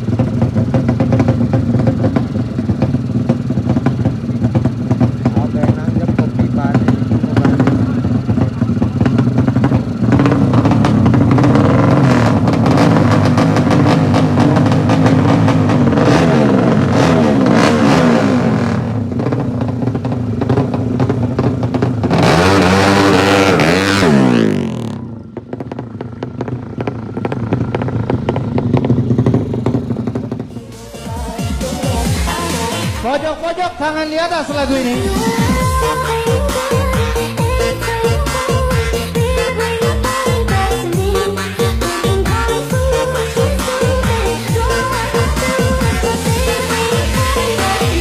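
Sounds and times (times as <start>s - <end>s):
racing motorcycle engines revving: 0.0s - 48.0s.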